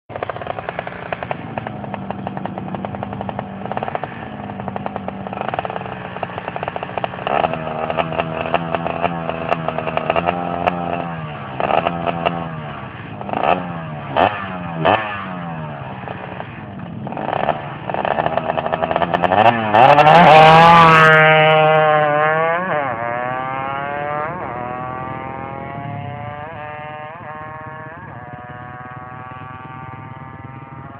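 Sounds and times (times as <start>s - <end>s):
motorcycle engine revving: 0.1s - 30.9s.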